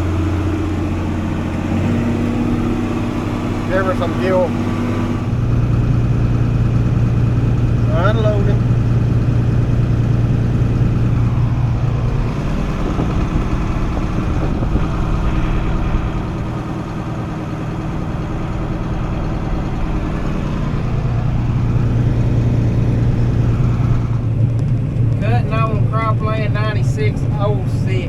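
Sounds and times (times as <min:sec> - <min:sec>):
combine harvester engine running: 0:00.0 - 0:28.0.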